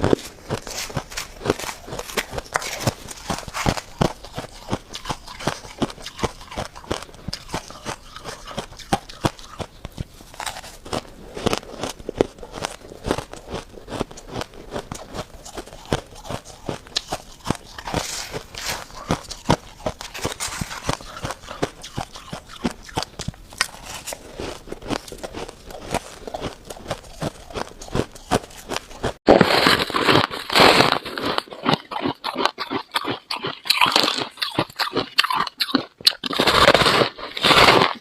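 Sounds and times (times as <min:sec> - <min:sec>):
person chewing frost crunches: 0:00.0 - 0:38.0.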